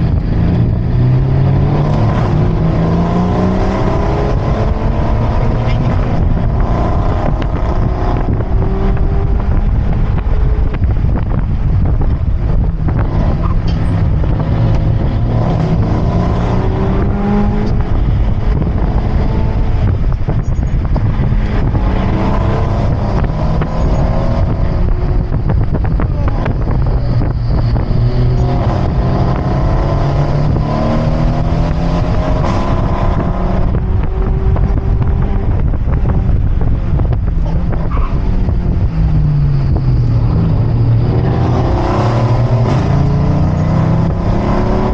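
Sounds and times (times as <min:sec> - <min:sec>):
car engine accelerating: 0:00.0 - 0:44.9
wind noise: 0:00.0 - 0:44.9.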